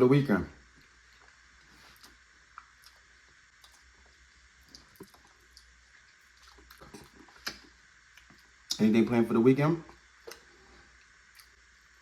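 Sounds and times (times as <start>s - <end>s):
person chewing food: 0.6s - 8.8s, 9.9s - 12.0s.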